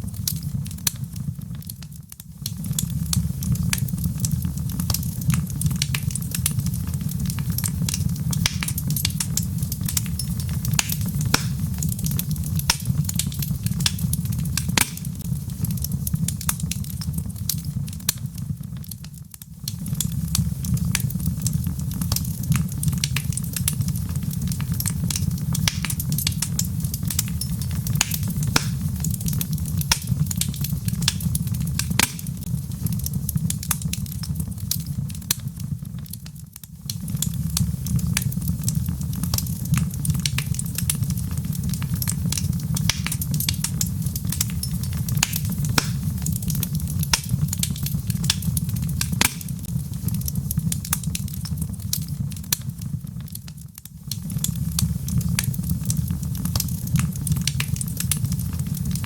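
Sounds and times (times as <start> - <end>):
log fire crackling: 0.0 - 59.0.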